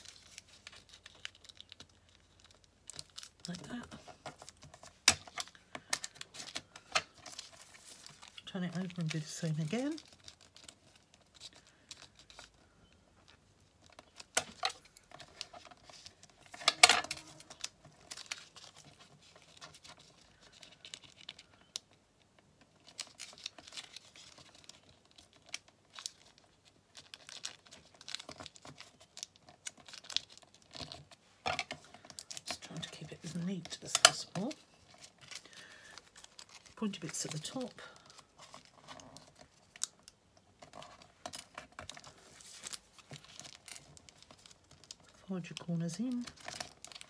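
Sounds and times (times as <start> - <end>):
thin paper crinkling: 0.0 - 22.0, 22.7 - 47.0.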